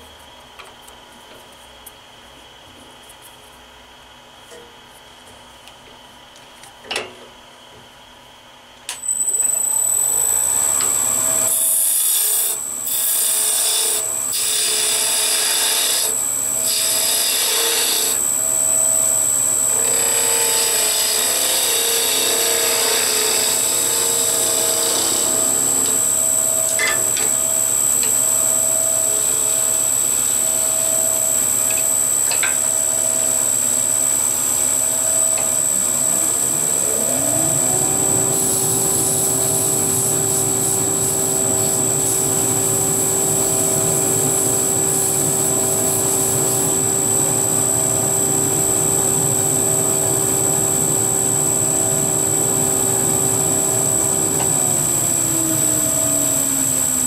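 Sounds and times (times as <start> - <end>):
lathe motor hum: 9.7 - 57.0.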